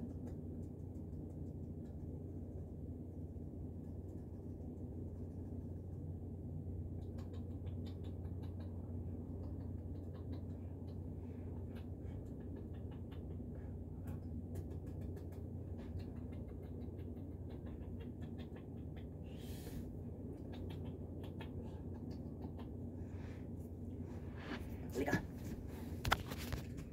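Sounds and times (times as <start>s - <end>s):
kitten paws pattering and scratching: 0.0s - 2.4s, 7.0s - 26.9s
steady low hum: 0.0s - 26.9s.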